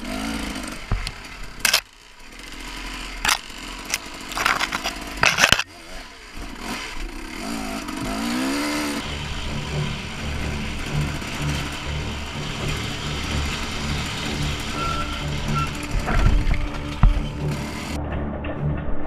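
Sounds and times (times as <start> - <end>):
loud clatter: 0.0 - 5.7, 6.4 - 19.0
dirt bike engine revving: 0.0 - 18.0.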